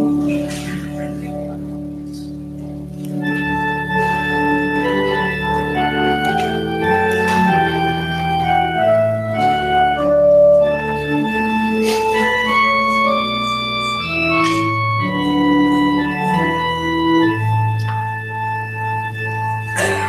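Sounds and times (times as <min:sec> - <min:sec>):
organ playing slow music: 0:00.0 - 0:20.0.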